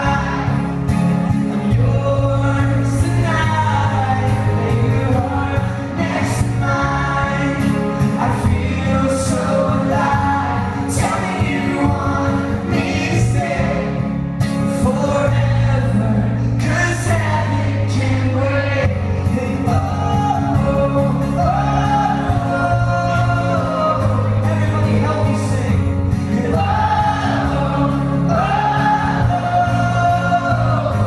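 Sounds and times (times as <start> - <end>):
acoustic guitar: 0.0 - 31.0
live band playing: 0.0 - 31.0
low bass notes: 0.0 - 31.0
man singing: 0.0 - 31.0.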